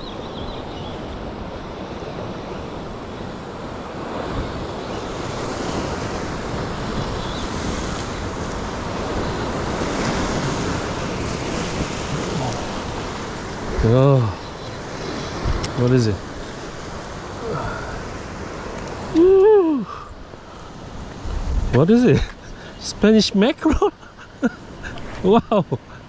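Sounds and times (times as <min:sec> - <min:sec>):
wind buffeting microphone: 0:00.0 - 0:22.9
ocean surf washing: 0:00.0 - 0:26.0.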